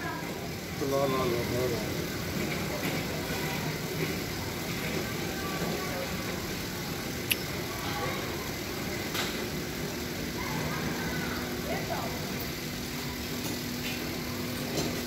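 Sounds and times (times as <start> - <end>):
faint voices: 0.0 - 13.4
busy workshop noise: 0.0 - 15.0.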